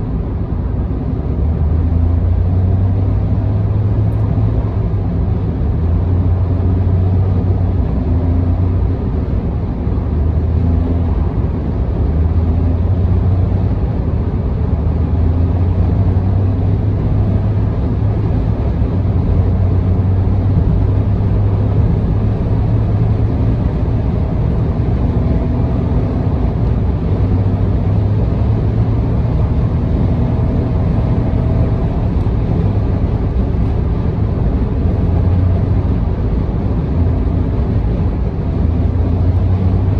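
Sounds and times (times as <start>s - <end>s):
car engine and tyre drone: 0.0s - 39.9s.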